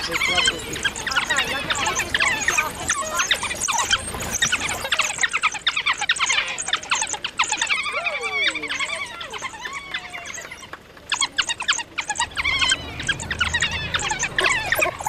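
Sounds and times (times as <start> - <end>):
dog whining: 0.0 - 15.0
wild dogs twittering: 0.0 - 15.0.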